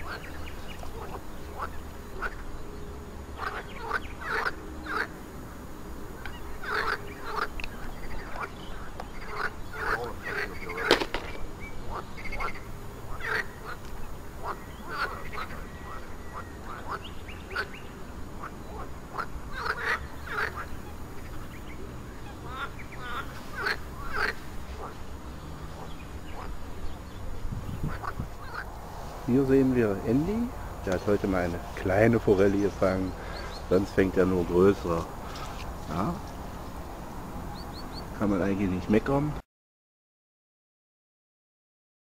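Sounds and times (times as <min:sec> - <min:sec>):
waterfowl calling: 0:00.0 - 0:02.7, 0:03.3 - 0:05.5, 0:06.1 - 0:36.8, 0:37.4 - 0:38.1.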